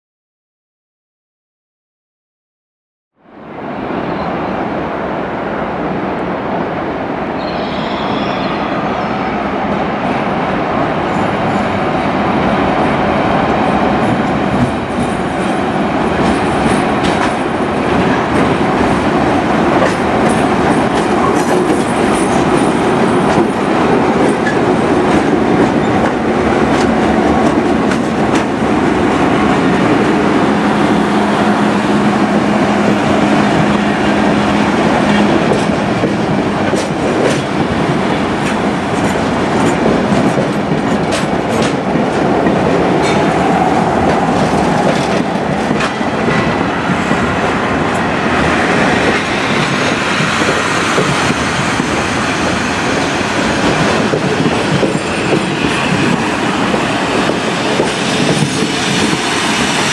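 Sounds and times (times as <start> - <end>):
diesel locomotive engines running: 7.4 - 59.9.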